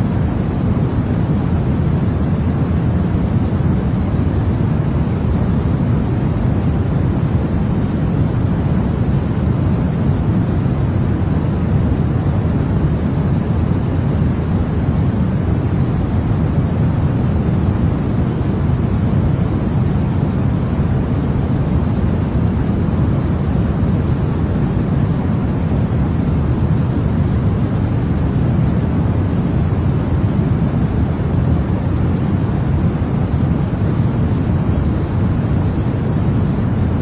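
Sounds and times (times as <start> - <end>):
deep white noise hiss: 0.0 - 37.0.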